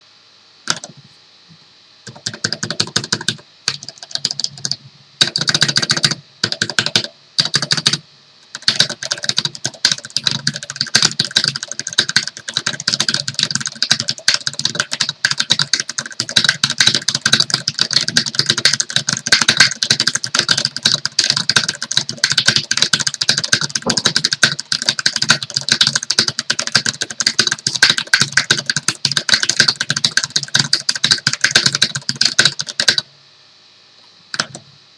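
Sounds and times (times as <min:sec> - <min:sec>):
mechanical keyboard typing: 0:00.7 - 0:00.9, 0:02.1 - 0:33.0, 0:34.4 - 0:34.6.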